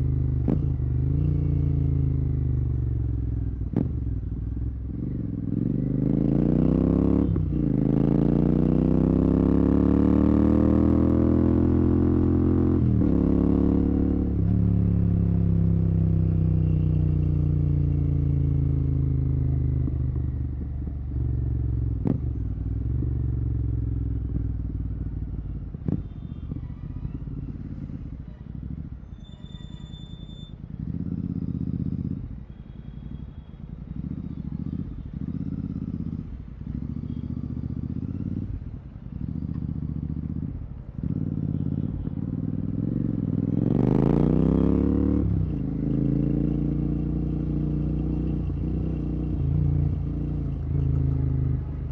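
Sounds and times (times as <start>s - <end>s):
motorcycle engine revving: 0.0s - 28.8s, 30.7s - 32.3s, 33.8s - 51.9s.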